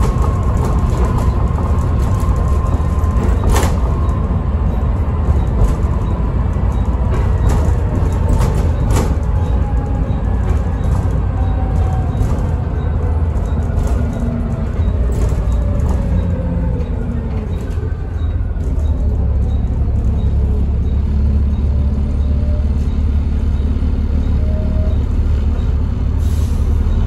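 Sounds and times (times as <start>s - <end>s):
bus engine rumble: 0.0s - 27.0s.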